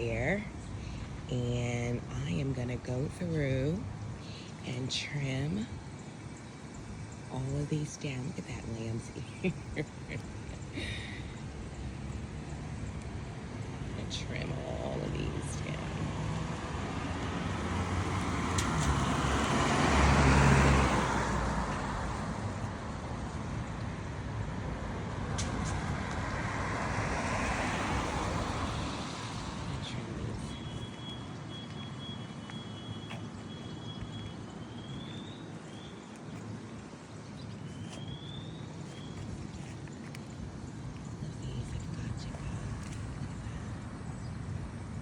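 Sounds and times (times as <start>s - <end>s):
steady road hum: 0.0s - 45.0s
vehicles passing: 0.0s - 45.0s.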